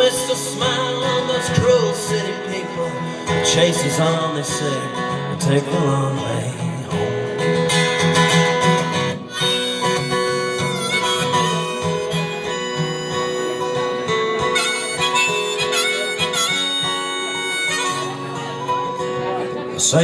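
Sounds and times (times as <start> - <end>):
harmonica bending notes: 0.0 - 5.4, 6.4 - 19.8
strummed acoustic guitar: 0.0 - 20.0.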